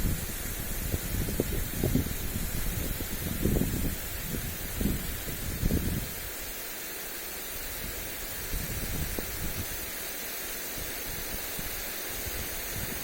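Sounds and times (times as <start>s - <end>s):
wind rumbling on microphone: 0.0s - 6.4s, 7.6s - 10.0s, 10.8s - 13.0s
sprinkler spraying water: 0.0s - 13.0s.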